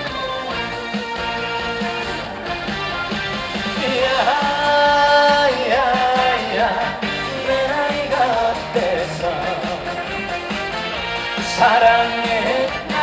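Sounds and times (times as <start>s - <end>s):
trot music over pa system: 0.0s - 13.0s.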